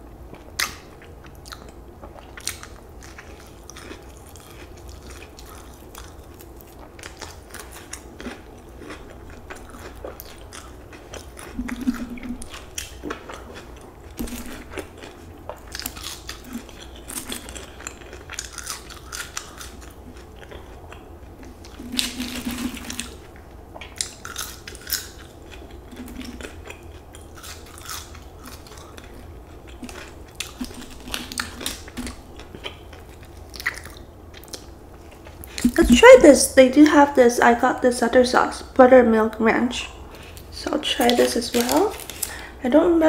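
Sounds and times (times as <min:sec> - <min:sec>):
chewing crispy food: 0:00.0 - 0:35.9, 0:40.1 - 0:42.6.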